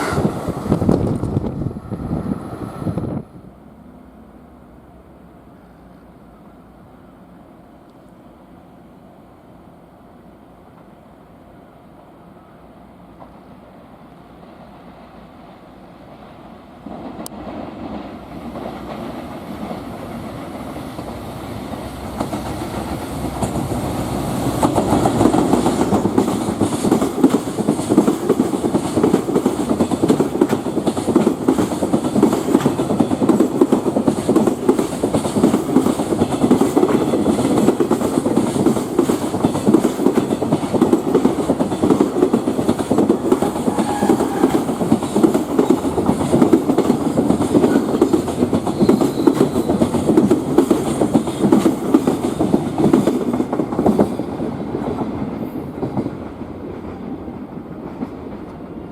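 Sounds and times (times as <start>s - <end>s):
freight train passing: 0.0s - 58.9s.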